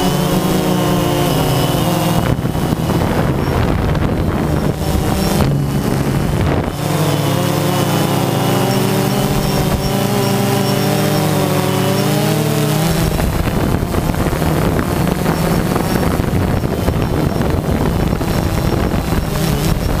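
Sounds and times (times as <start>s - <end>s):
drone propellers whirring: 0.0s - 20.0s
rough rushing noise: 0.0s - 20.0s.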